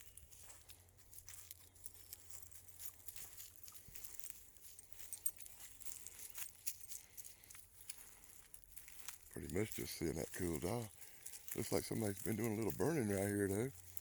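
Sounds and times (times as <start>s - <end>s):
footsteps on dry brush: 0.0s - 14.0s.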